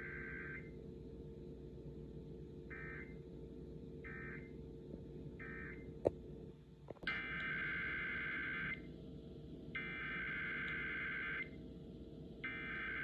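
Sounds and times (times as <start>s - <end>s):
low radio hum: 0.0s - 13.0s.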